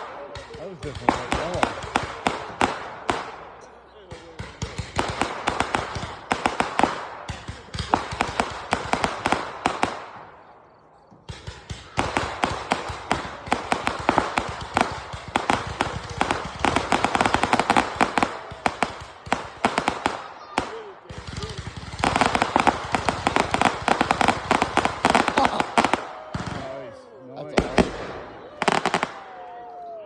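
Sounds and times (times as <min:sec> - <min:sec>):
fireworks crackling: 0:00.0 - 0:29.4.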